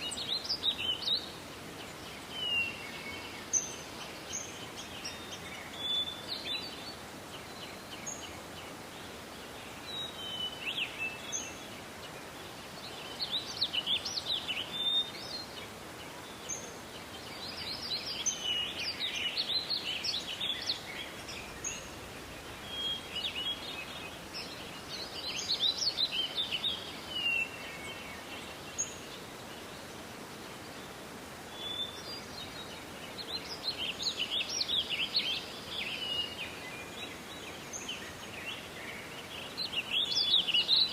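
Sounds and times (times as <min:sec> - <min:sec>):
soft background hiss: 0:00.0 - 0:40.9
songbirds twittering: 0:00.0 - 0:40.9.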